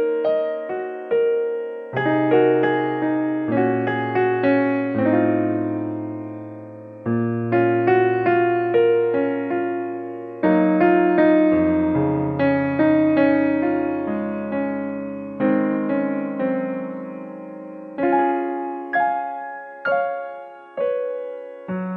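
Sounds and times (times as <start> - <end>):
gentle piano music: 0.0 - 21.9.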